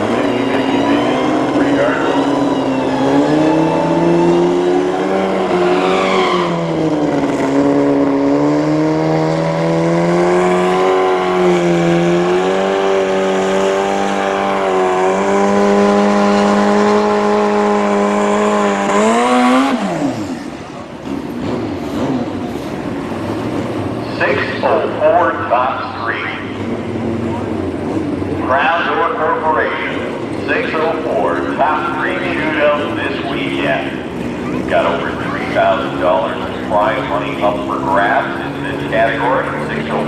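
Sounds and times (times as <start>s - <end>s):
racing engine at high revs: 0.0s - 40.0s.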